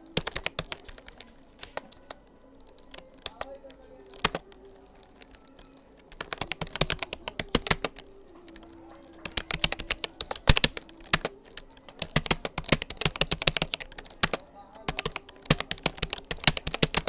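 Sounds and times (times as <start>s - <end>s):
computer keyboard typing: 0.0s - 17.0s.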